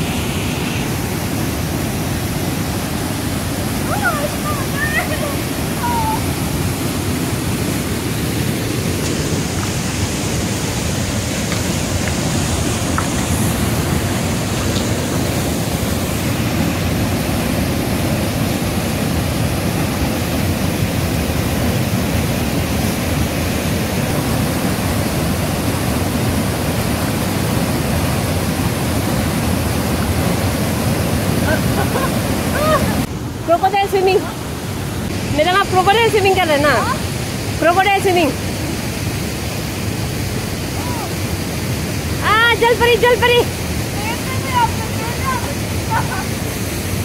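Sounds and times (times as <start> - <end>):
waterfall rushing into pool: 0.0 - 47.0.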